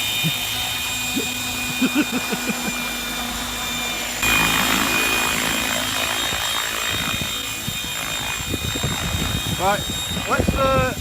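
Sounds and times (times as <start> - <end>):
toy helicopter rotor whirring: 0.0 - 11.0.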